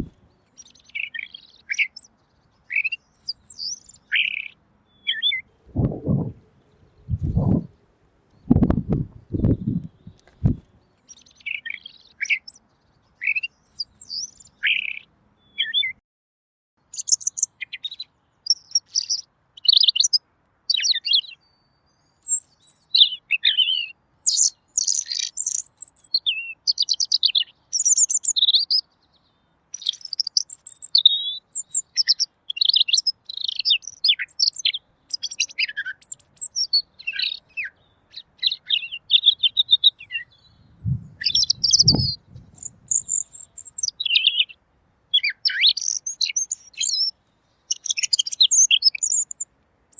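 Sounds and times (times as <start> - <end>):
bird singing chirping phrases: 0.0 - 16.0, 16.8 - 49.5.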